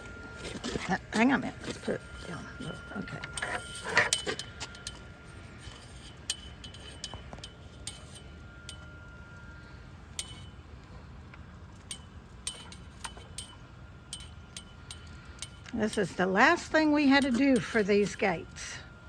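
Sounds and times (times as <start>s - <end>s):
metal hardware clicking and clinking: 0.4s - 8.9s, 10.2s - 10.6s, 11.8s - 18.1s.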